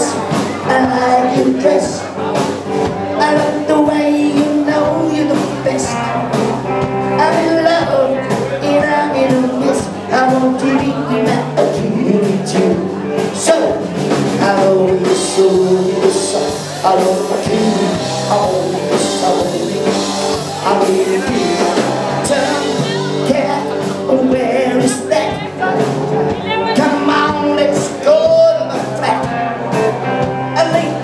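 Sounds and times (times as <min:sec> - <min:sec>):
bass notes: 0:00.0 - 0:31.0
electric guitar: 0:00.0 - 0:31.0
male singer: 0:00.0 - 0:31.0
steady drum beat: 0:00.0 - 0:31.0.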